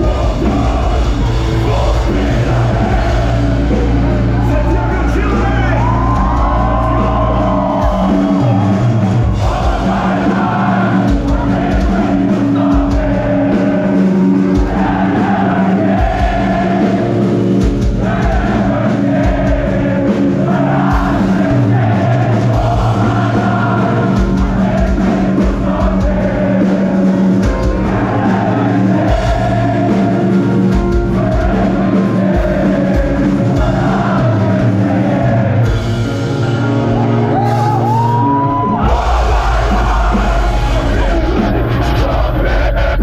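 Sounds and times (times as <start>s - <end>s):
pounding drums: 0.0s - 36.2s, 38.7s - 43.0s
bass guitar: 0.0s - 43.0s
distorted guitars: 0.0s - 43.0s.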